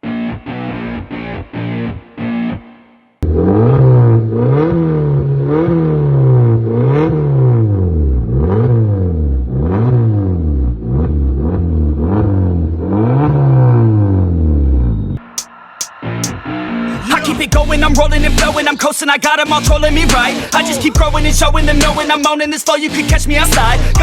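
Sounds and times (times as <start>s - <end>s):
car engine revving: 3.2s - 24.0s.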